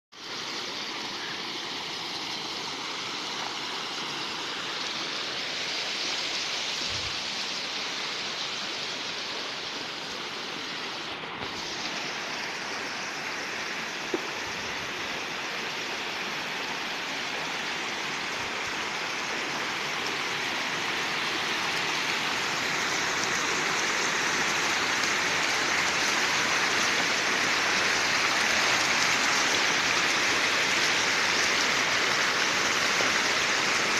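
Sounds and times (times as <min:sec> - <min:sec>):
river water rushing and splashing: 0:00.2 - 0:33.9.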